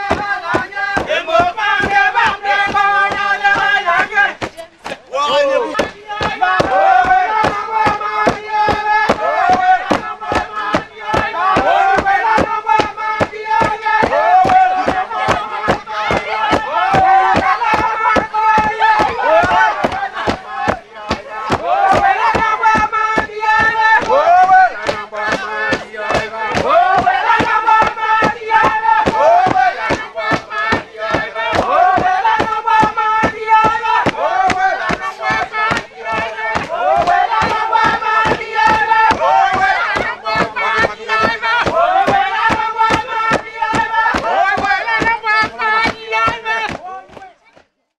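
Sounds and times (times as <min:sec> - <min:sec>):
group chanting and singing: 0:00.0 - 0:47.9.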